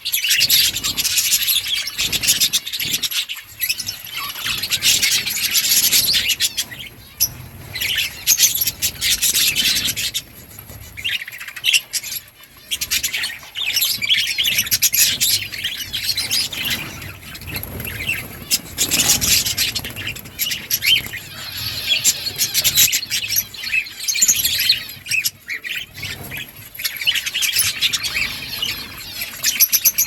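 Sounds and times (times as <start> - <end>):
budgerigars chirping and chattering: 0.0 - 30.0.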